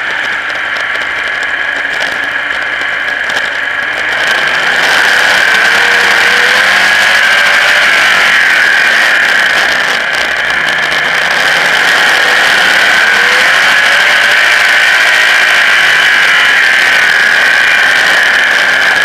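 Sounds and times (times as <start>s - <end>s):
race car engine at speed: 0.0s - 19.0s.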